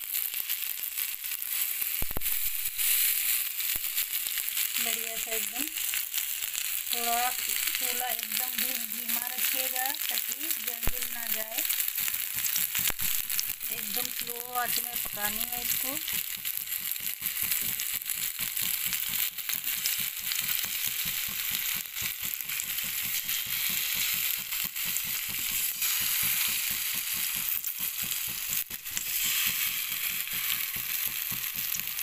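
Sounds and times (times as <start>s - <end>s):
paneer sizzling in a frying pan: 0.0s - 32.0s.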